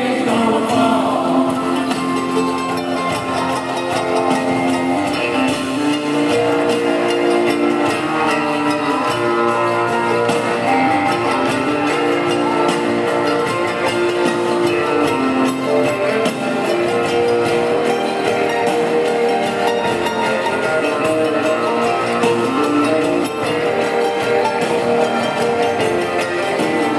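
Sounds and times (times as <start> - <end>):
live band playing instrumental: 0.0 - 26.9.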